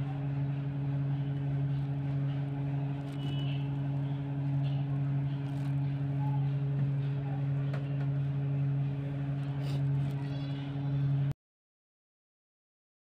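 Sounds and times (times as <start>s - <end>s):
low machine hum: 0.0s - 11.4s.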